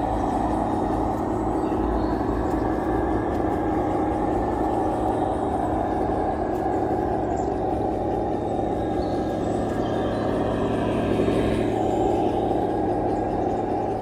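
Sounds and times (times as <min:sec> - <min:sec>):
toy tank engine idle effect: 0:00.0 - 0:14.0.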